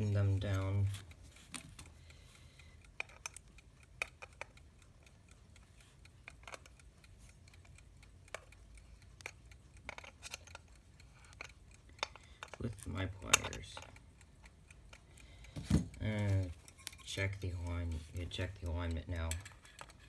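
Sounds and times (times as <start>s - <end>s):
small metallic clicks: 0.0s - 20.0s.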